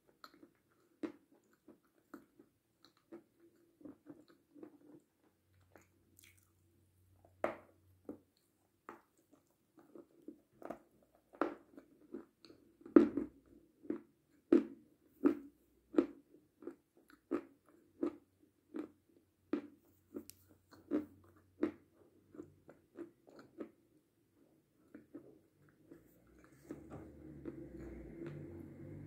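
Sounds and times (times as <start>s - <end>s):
person chewing crunchy sweet: 0.0s - 6.8s, 8.0s - 28.4s.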